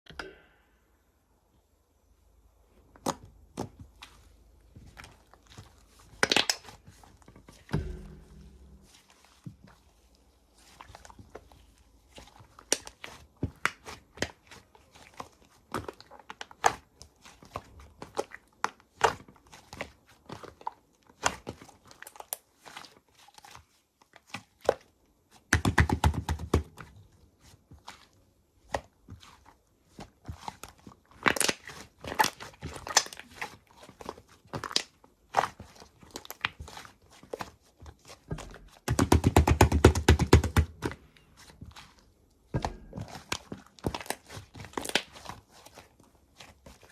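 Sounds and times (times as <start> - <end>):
rapid crackling of slime: 2.9 - 7.8, 8.8 - 46.9.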